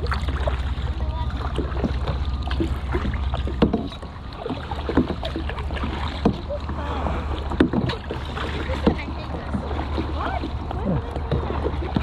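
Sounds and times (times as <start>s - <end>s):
kayak paddle strokes: 0.0s - 12.0s.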